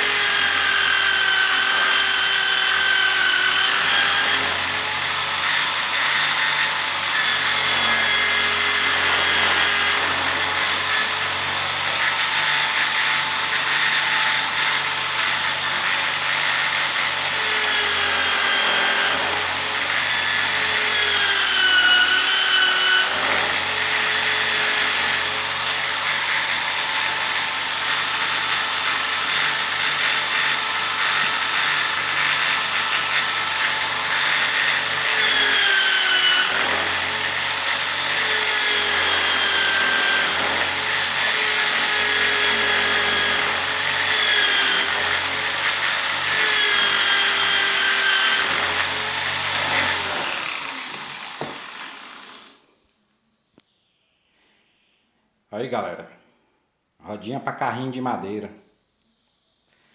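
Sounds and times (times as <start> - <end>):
bench drill cutting wood: 0.0 - 52.7.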